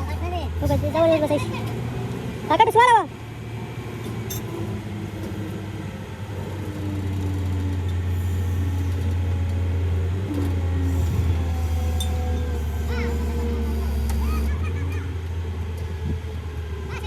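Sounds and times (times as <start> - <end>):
large engine droning: 0.0 - 17.0.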